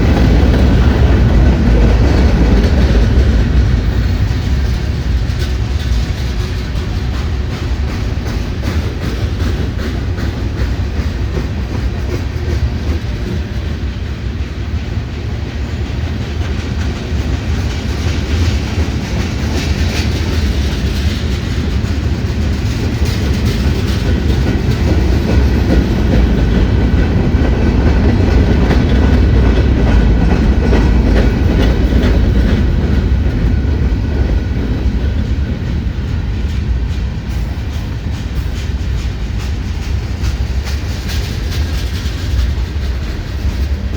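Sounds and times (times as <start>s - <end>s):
train wheels rumbling and clattering: 0.0s - 43.9s.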